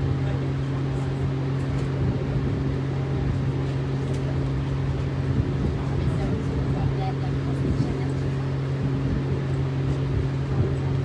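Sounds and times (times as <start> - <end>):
ship machinery drone: 0.0 - 11.0.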